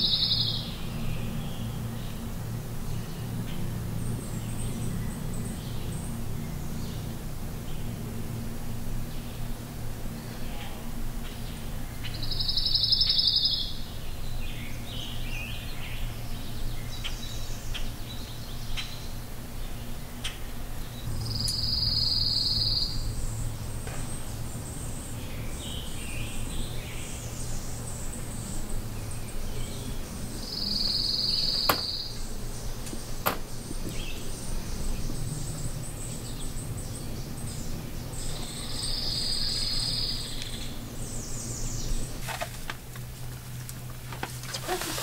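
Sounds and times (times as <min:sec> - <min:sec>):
low background hum: 0:00.0 - 0:45.0
songbird trill: 0:00.0 - 0:45.0.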